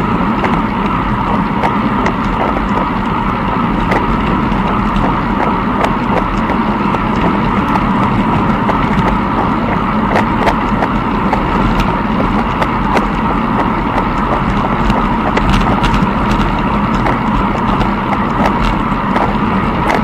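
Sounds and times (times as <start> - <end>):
camera movement rumble: 0.0 - 20.0
clicks and rattles: 0.2 - 20.0.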